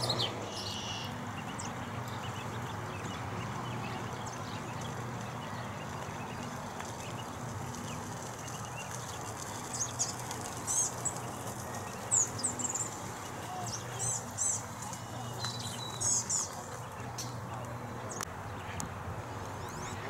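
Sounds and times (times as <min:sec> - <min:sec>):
small songbirds chirping: 0:00.0 - 0:20.0.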